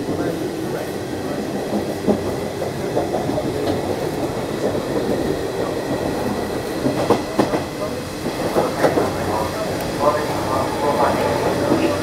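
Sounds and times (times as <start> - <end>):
rail joint clacks: 0.0 - 12.0
train wheels rumbling: 0.0 - 12.0.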